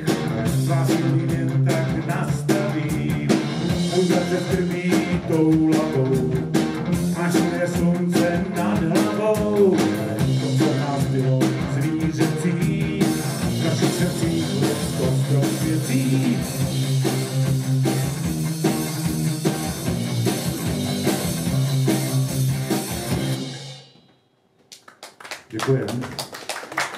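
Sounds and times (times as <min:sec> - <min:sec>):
bass guitar: 0:00.0 - 0:24.0
drum kit: 0:00.0 - 0:24.8.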